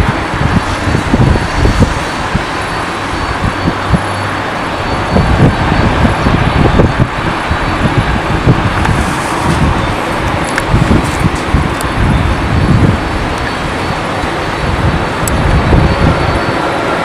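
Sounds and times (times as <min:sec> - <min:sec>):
jet engines roaring: 0:00.0 - 0:17.0
wind buffeting the microphone: 0:00.0 - 0:17.0.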